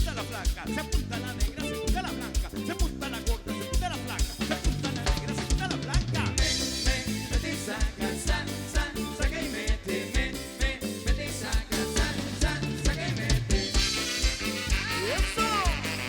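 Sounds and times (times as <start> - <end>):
band playing cumbia: 0.0 - 16.0.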